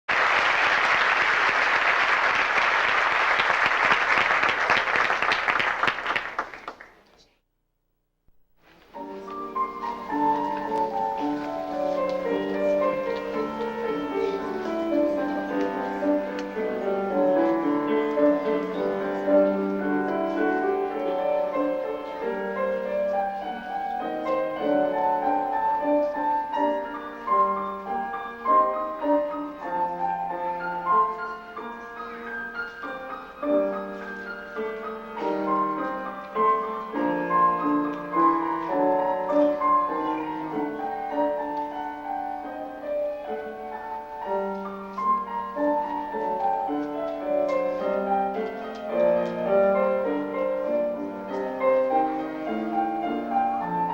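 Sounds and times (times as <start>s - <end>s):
piano music: 8.9s - 53.9s.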